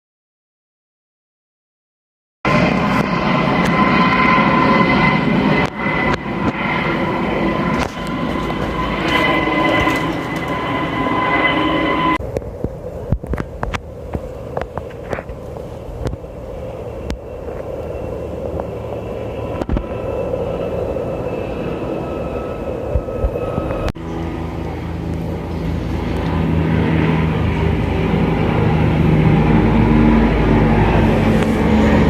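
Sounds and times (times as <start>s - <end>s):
distant helicopter turbine whine: 2.5s - 32.0s
helicopter rotor and engine: 2.5s - 32.0s.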